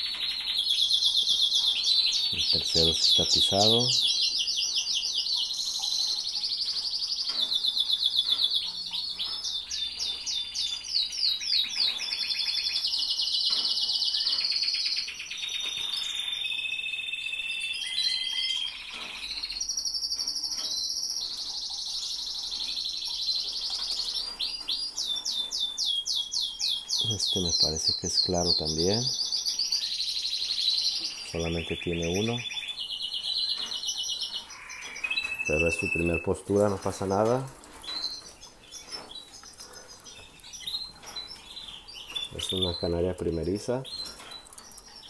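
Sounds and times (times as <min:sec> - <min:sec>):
canaries singing trills: 0:00.0 - 0:45.0.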